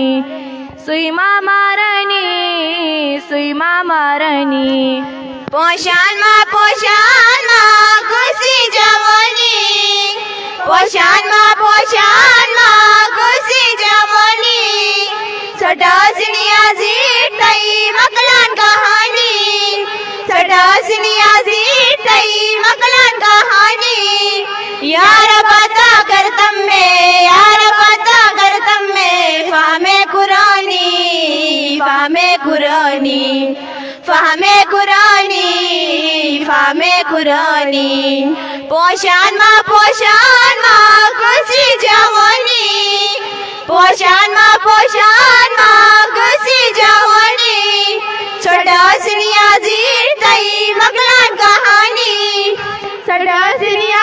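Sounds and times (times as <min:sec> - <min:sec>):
girls singing together: 0:00.0 - 0:54.0.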